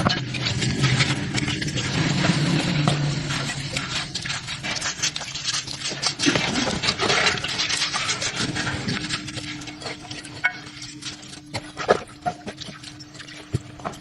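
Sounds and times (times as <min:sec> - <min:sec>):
faint steady hum: 0:00.0 - 0:14.0
scraping and rubbing on metal: 0:00.0 - 0:14.0.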